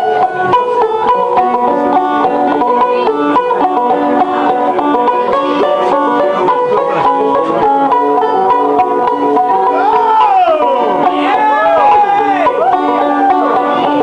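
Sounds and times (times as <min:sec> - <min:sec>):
banjos picking a tune: 0:00.0 - 0:14.0.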